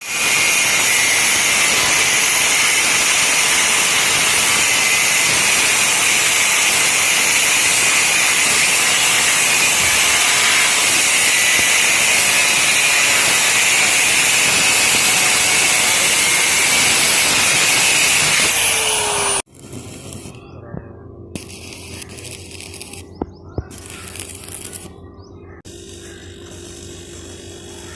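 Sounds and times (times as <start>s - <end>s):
power tool grinding metal: 0.0s - 20.4s, 21.4s - 23.0s, 25.7s - 27.9s.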